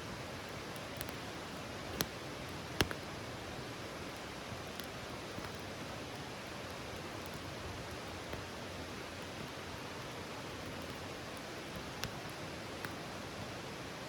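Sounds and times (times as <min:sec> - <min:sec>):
campfire crackling: 0:00.0 - 0:14.0
fire popping: 0:00.2 - 0:13.8.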